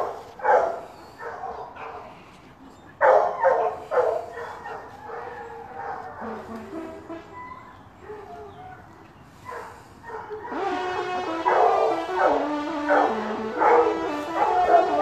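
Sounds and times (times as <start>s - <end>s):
hounds baying: 0.0s - 2.2s, 2.9s - 15.0s.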